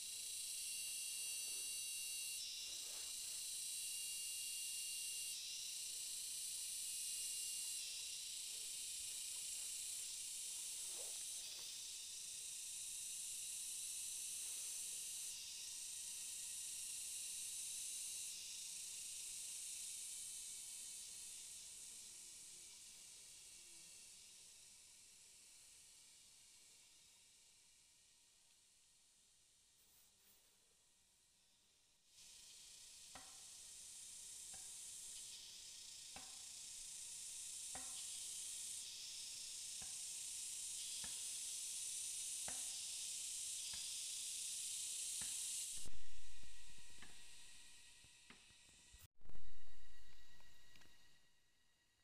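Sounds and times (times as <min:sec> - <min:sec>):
insects droning: 0:00.0 - 0:29.5, 0:31.4 - 0:51.8.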